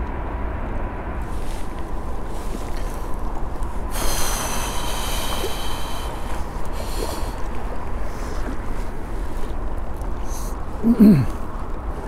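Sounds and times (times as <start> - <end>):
wind: 0.0 - 12.0
rushing water: 1.2 - 12.0.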